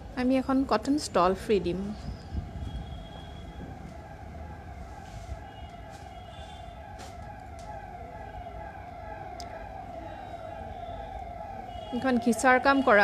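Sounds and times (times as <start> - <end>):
wailing siren: 1.6 - 13.0.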